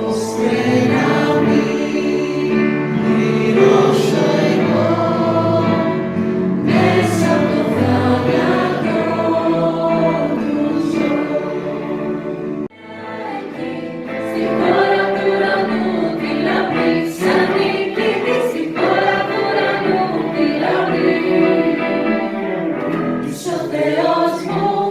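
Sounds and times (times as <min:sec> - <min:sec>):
choir singing a hymn: 0:00.0 - 0:24.9.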